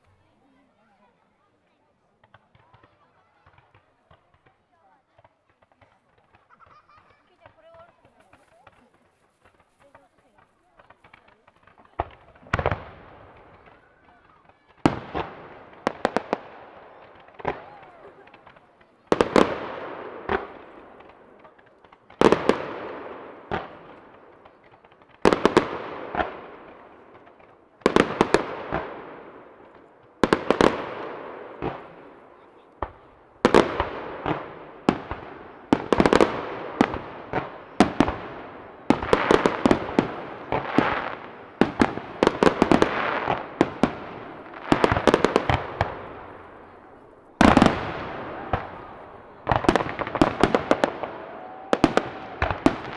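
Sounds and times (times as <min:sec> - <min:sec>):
fireworks bursting with echo: 0:02.2 - 0:52.9.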